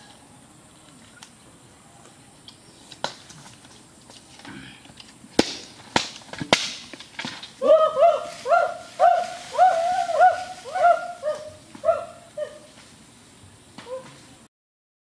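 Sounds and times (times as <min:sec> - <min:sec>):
campfire crackling: 0:00.0 - 0:14.5.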